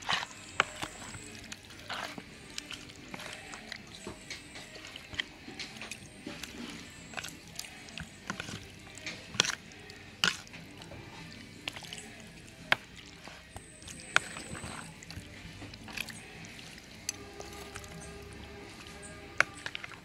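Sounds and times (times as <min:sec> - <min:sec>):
wet squelching of meat: 0:00.0 - 0:20.0.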